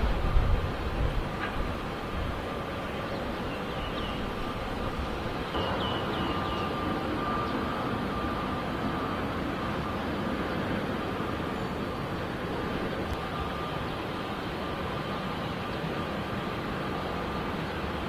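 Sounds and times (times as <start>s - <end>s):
jet engines running at low power: 0.0s - 18.0s.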